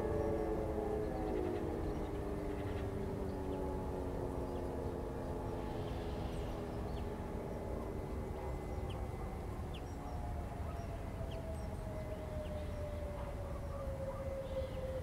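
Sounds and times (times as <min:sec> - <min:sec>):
distant motor sirens winding down: 0:00.0 - 0:15.0.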